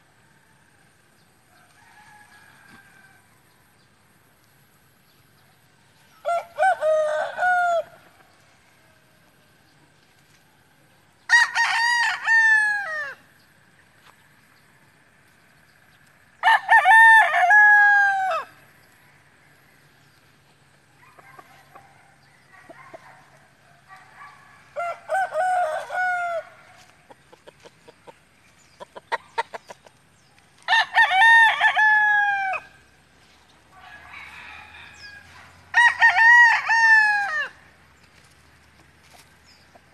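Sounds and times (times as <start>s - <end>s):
roosters crowing: 0.0s - 4.2s, 5.0s - 39.9s.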